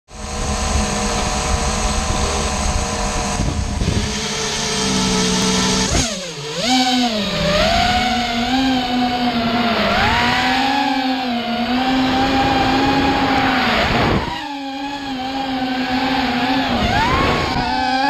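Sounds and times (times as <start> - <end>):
quadcopter motors whining: 0.1 - 18.0.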